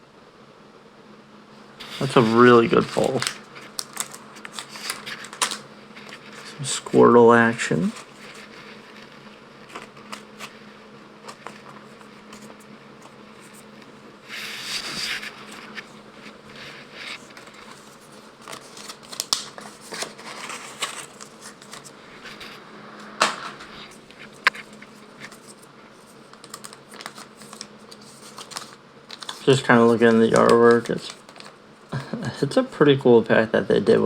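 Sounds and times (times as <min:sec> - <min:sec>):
faint steady hum: 0:00.0 - 0:34.0
cards sliding and rustling: 0:01.8 - 0:31.6.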